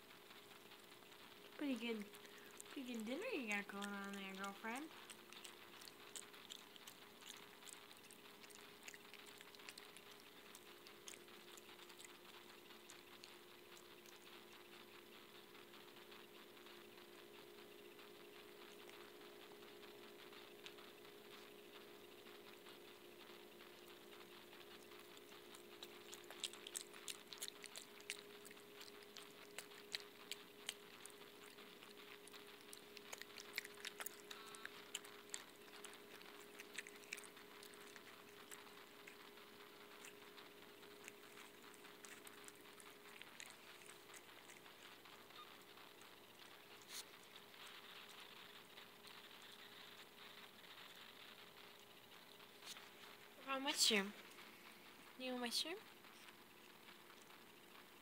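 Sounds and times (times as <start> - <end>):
animal chewing wetly: 0.0 - 58.0
steady low hum: 0.0 - 58.0.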